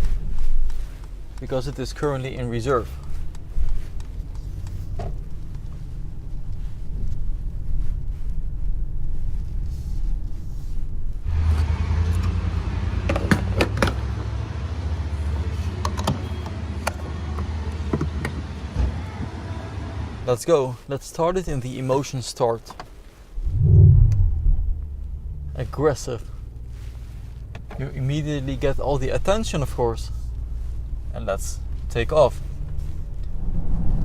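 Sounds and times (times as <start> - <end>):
low vehicle rumble: 0.0 - 20.3, 23.2 - 34.0.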